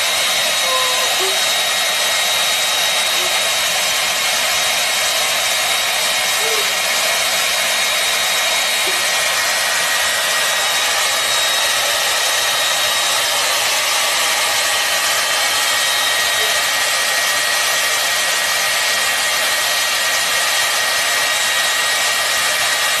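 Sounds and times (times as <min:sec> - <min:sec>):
hair dryer running: 0:00.0 - 0:23.0.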